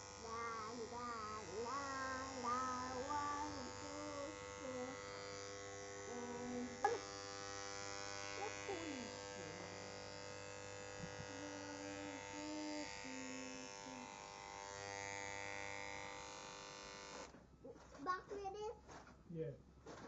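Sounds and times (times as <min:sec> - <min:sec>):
hair clippers humming: 0:00.0 - 0:17.3.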